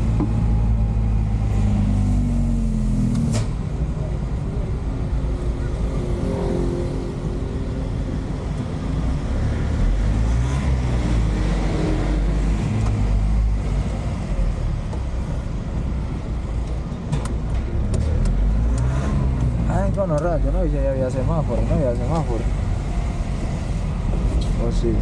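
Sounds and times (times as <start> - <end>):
diesel truck engine revving: 0.0 - 4.3, 4.9 - 14.8, 17.8 - 25.0.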